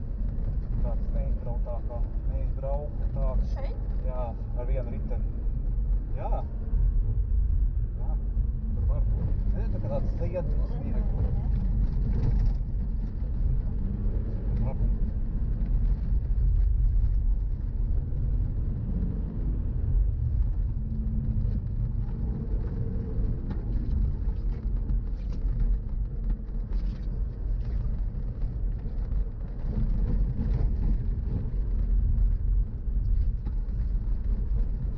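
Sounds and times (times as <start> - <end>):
car engine and tyre noise: 0.0 - 34.9.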